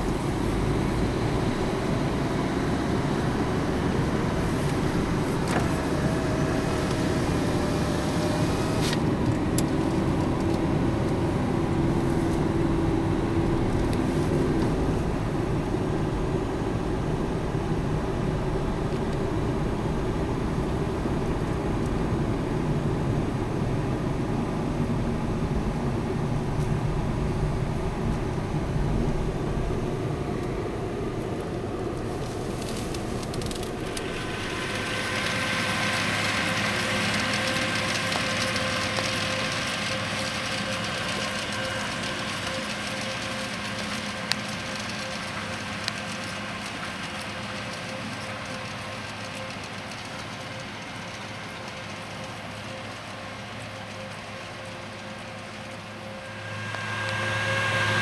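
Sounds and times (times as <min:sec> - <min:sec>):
tractor hiss with thin whine: 0:00.0 - 0:22.9, 0:31.1 - 0:58.0.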